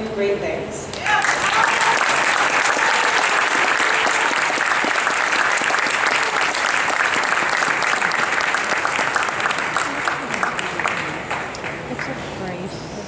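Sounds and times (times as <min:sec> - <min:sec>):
crowd applauding: 0:00.9 - 0:12.4.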